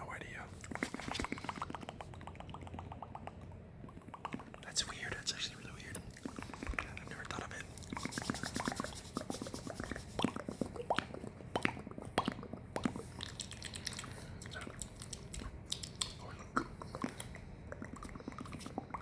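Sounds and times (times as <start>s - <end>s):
wet mouth clicks and smacks: 0.5s - 19.0s.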